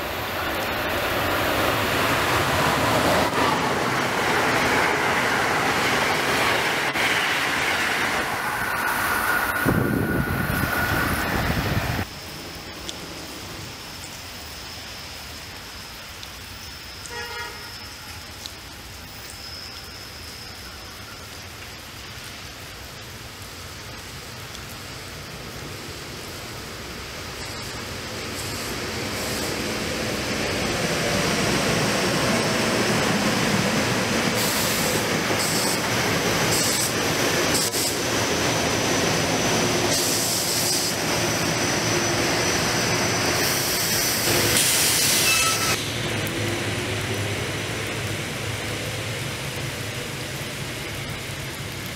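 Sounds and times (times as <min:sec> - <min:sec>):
electric train passing on rails: 0:00.0 - 0:51.9.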